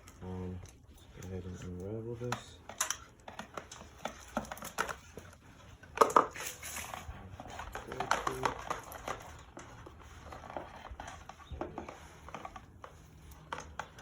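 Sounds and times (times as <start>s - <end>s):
power cable rustling and clicking: 0.0s - 14.0s.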